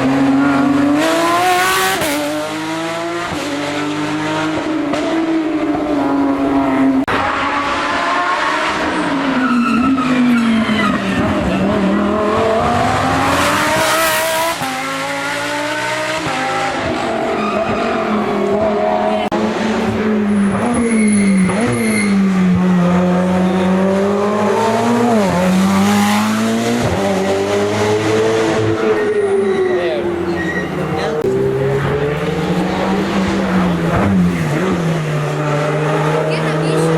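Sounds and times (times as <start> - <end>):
racing car engine at high revs: 0.0 - 36.9.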